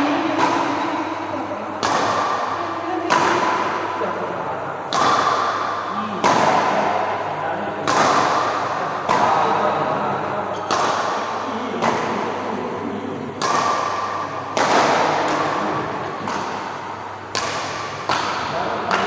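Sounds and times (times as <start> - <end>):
racket hitting shuttlecock: 0.0 - 4.2, 4.9 - 19.0.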